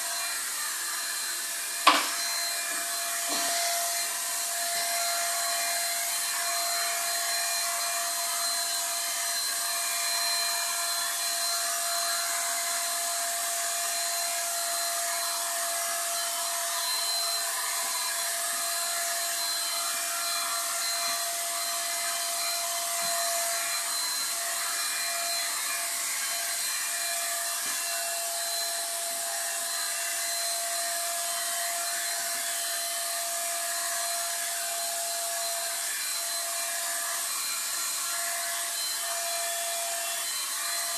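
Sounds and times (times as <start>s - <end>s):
paint spray gun motor whine: 0.0s - 40.9s.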